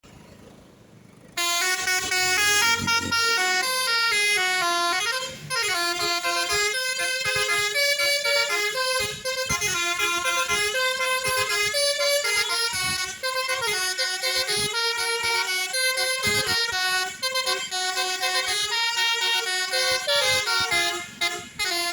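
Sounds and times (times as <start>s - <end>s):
multi-tone bus horn tune: 1.4s - 21.9s.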